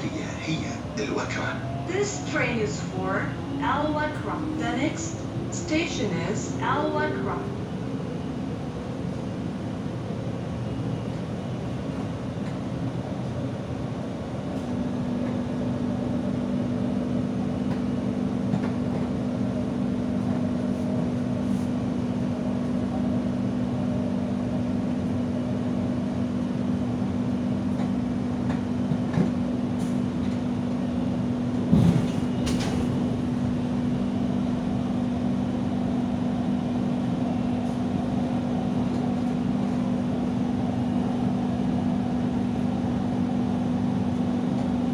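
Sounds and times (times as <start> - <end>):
train running on track: 0.0 - 44.9.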